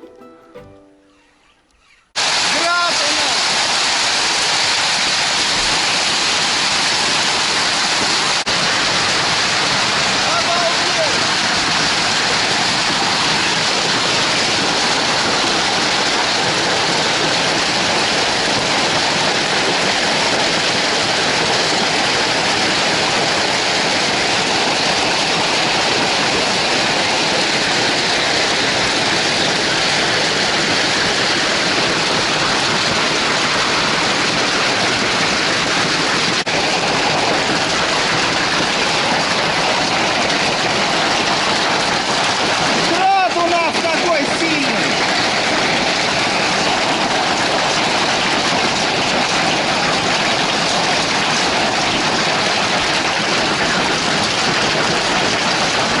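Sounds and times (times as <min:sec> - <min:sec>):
hail and rain falling hard: 0:02.2 - 0:56.0.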